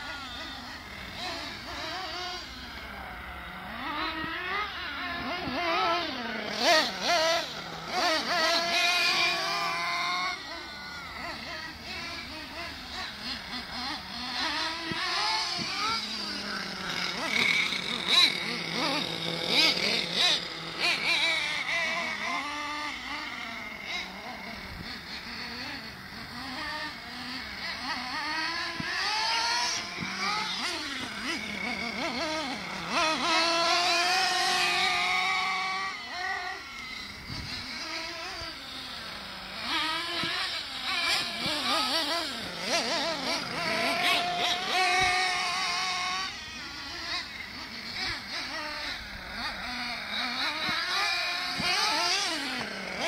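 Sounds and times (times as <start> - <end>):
small engines revving: 0.0 - 53.0.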